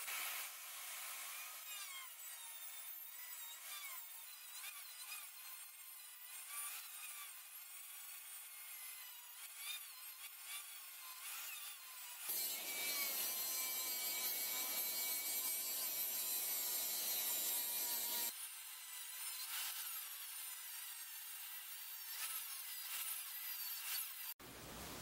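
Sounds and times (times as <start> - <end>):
rotary tool whining: 0.0 - 24.4.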